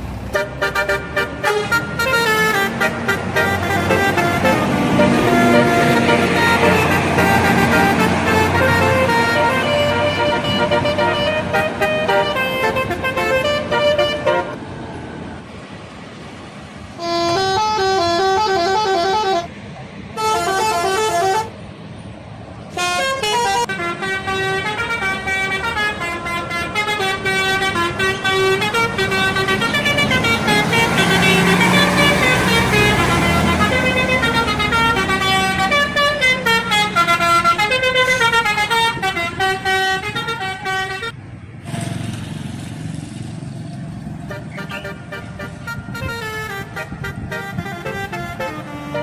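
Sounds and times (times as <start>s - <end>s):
bus engine: 0.0s - 49.0s
bus horn playing a melody: 0.2s - 14.6s, 16.9s - 21.6s, 22.7s - 41.2s, 44.2s - 49.0s.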